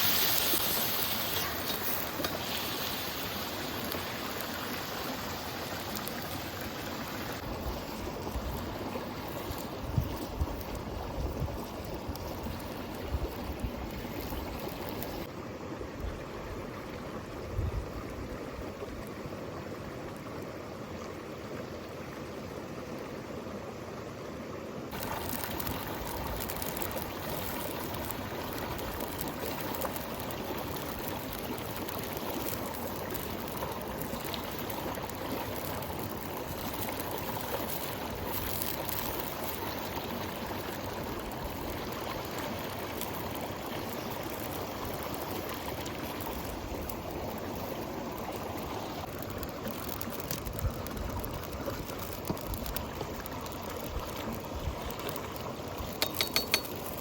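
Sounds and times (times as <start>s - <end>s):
running water rushing: 0.0s - 23.6s, 24.9s - 57.0s.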